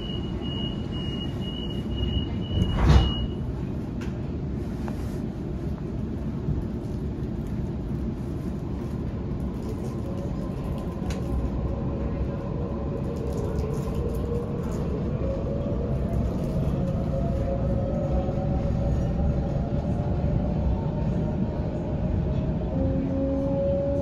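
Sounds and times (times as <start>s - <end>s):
train rumble from inside carriage: 0.0s - 24.0s.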